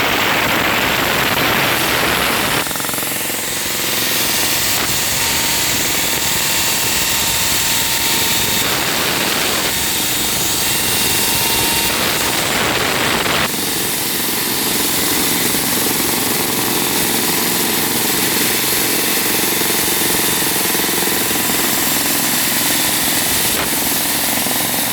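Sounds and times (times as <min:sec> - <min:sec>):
demolition breaker hammering concrete: 0:00.0 - 0:24.9.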